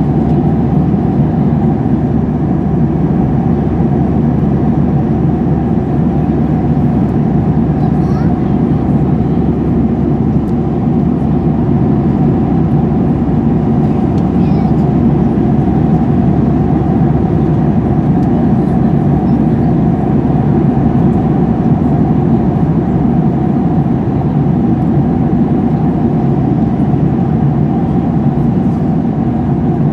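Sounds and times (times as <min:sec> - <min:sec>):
jet airliner cabin drone: 0:00.0 - 0:29.9.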